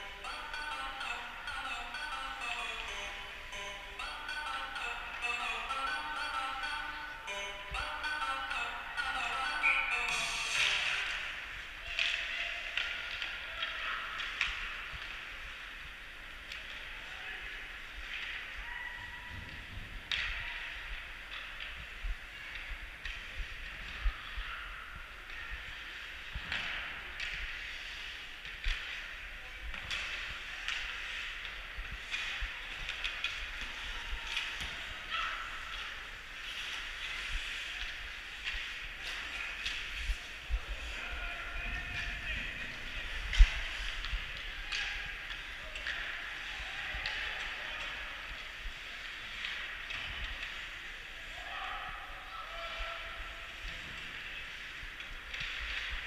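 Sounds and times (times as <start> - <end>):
hockey sticks and puck clacking: 0.2 - 16.9, 20.0 - 24.4, 25.7 - 41.0, 41.9 - 51.4, 52.7 - 56.0.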